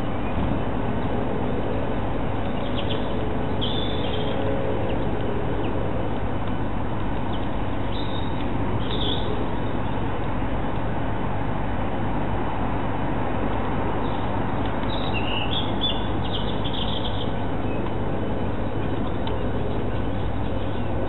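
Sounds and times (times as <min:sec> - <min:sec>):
steady rumble and hiss: 0:00.0 - 0:21.0.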